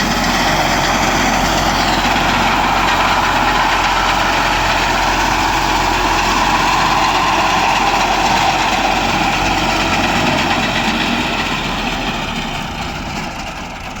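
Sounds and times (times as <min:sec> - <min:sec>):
harvester engine running: 0:00.0 - 0:14.0.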